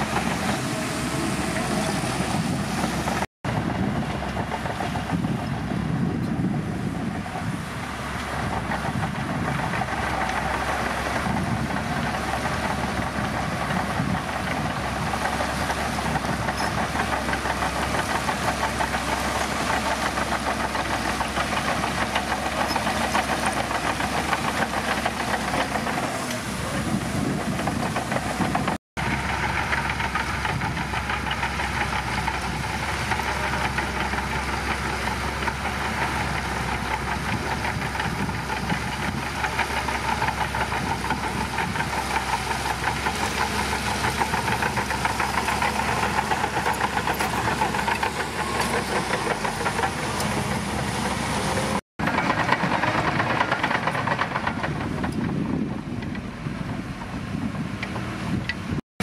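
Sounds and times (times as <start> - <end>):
bulldozer diesel engine clattering: 0.0 - 58.8.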